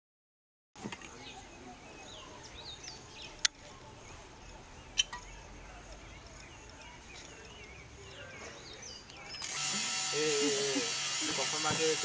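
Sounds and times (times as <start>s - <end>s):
small birds chirping: 0.8s - 12.0s.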